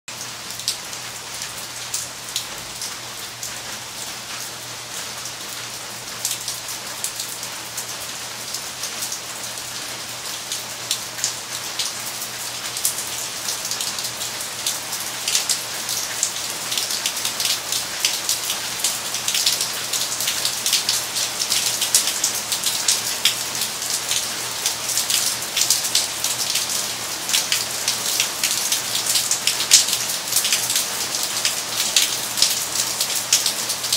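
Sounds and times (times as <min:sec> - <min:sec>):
rain falling on stone and plants: 0:00.1 - 0:33.9.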